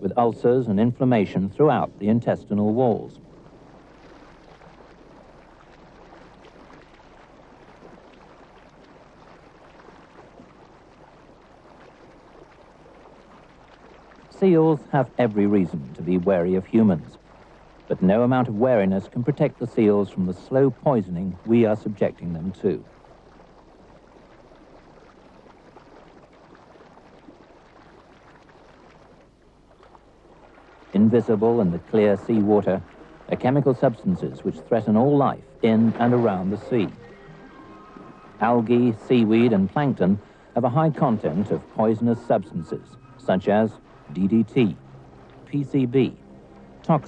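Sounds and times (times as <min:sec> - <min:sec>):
sea water lapping: 0:00.0 - 0:47.0.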